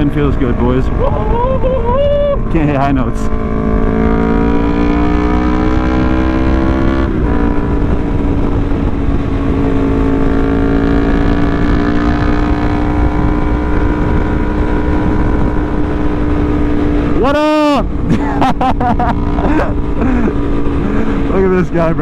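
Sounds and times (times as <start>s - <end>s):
motorcycle engine revving: 0.0s - 22.0s
wind buffeting microphone: 0.0s - 22.0s.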